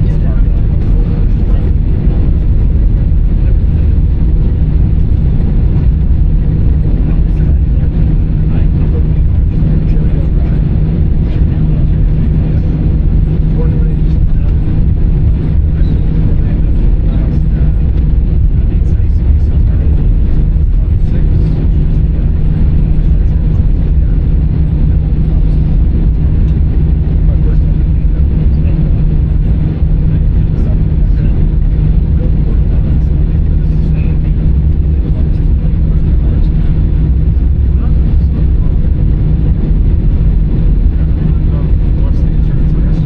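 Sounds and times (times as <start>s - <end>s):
aircraft cabin rumble: 0.0s - 43.0s
faint steady hum: 0.0s - 43.0s.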